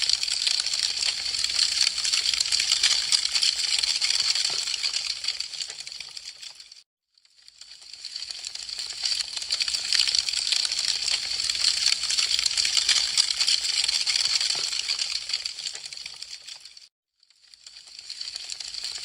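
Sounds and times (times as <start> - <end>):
wood fire crackling and popping: 0.0 - 6.7, 7.6 - 16.9.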